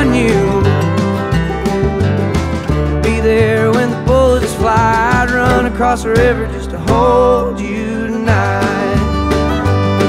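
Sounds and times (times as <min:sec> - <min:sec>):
bass line: 0:00.0 - 0:10.0
strummed acoustic guitar: 0:00.0 - 0:10.0.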